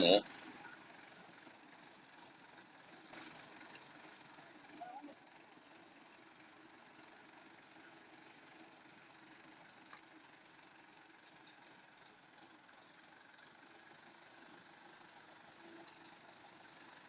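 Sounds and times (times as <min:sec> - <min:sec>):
distant engine running: 0:00.0 - 0:17.0.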